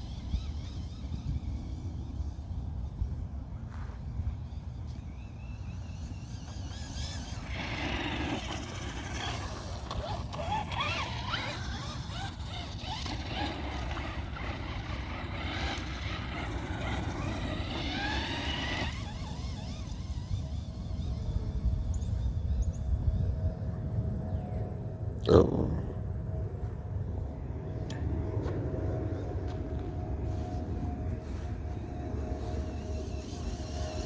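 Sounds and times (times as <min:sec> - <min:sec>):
electric motor whining: 0:00.0 - 0:23.3, 0:27.9 - 0:34.0.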